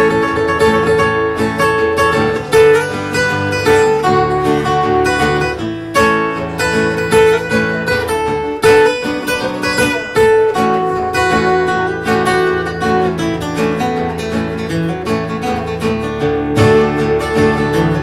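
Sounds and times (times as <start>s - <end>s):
acoustic guitar strummed and picked: 0.0s - 18.0s.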